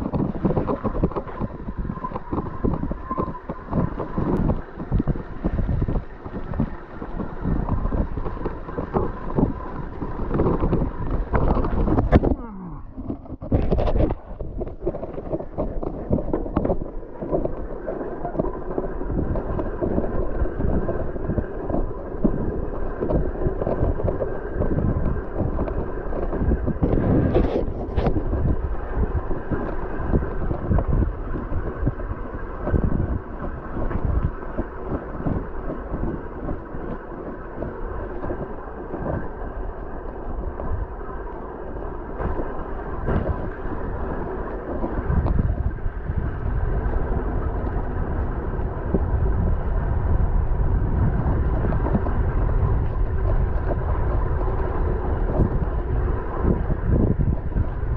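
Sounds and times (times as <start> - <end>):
bike tyres rumbling on gravel: 0.0 - 57.9
wind buffeting microphone: 0.0 - 57.9.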